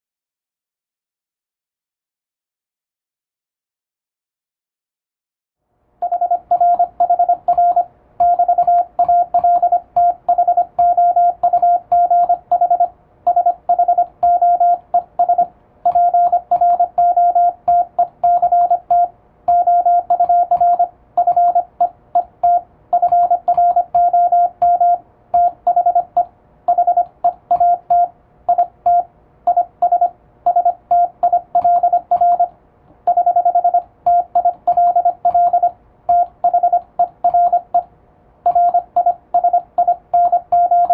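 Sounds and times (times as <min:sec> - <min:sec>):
morse code beeps: 0:06.0 - 0:32.5, 0:33.1 - 0:37.9, 0:38.5 - 0:40.9.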